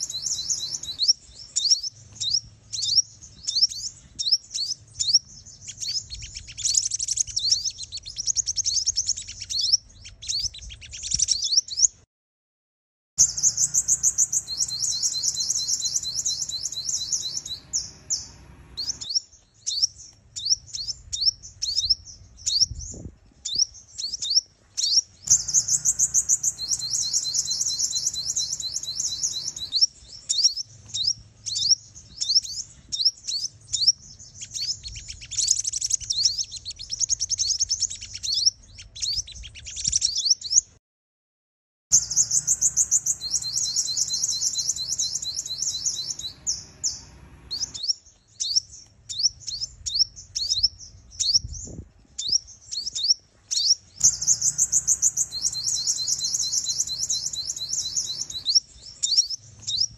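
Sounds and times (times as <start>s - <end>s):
bird chirps and trills: 0.0s - 12.0s, 13.2s - 40.7s, 41.9s - 59.9s.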